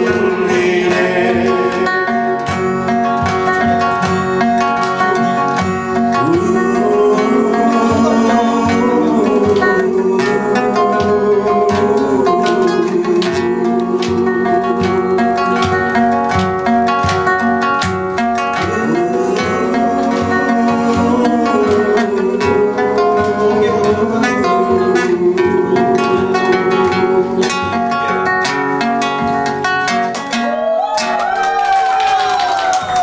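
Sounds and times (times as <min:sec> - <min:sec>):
acoustic guitars playing: 0:00.0 - 0:33.0.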